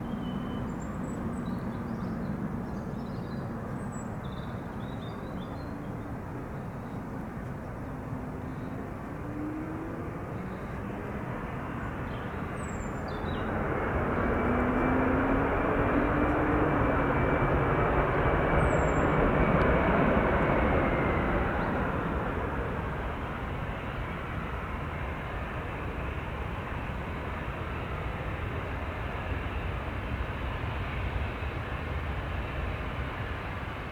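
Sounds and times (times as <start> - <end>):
high engine whine: 5.9 - 33.9.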